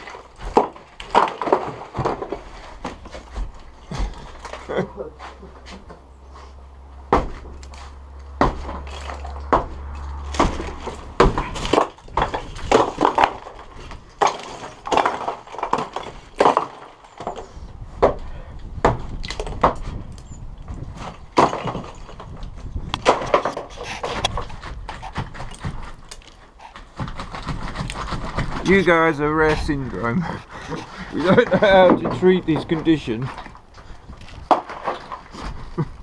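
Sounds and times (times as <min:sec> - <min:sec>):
bricks knocking and crashing: 0:00.0 - 0:06.0, 0:07.0 - 0:36.0.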